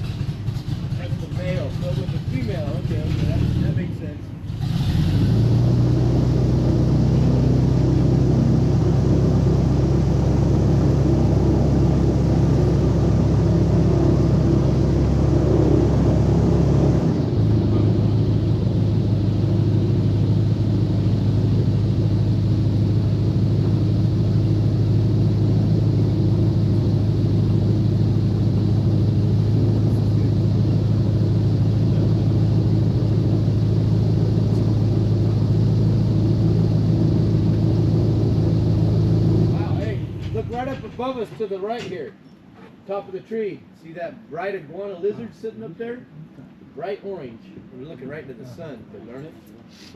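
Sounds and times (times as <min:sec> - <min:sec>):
airboat engine and propeller: 0:00.0 - 0:41.0.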